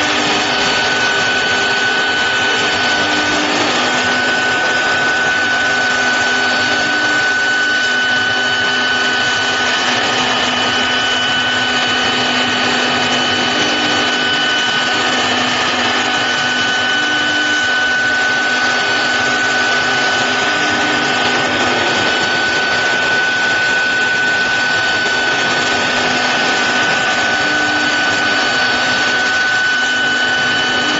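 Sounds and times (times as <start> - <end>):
cnc router spindle whine: 0.0 - 30.9
higher whine: 0.0 - 30.9.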